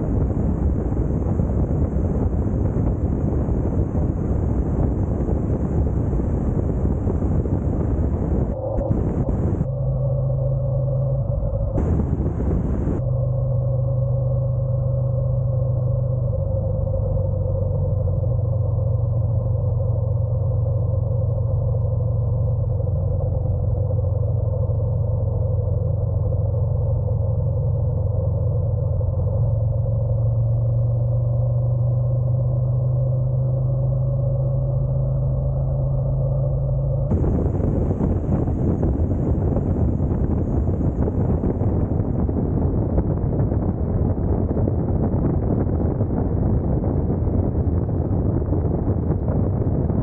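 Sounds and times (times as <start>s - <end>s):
motorcycle engine droning: 0.0s - 18.1s, 25.6s - 50.0s.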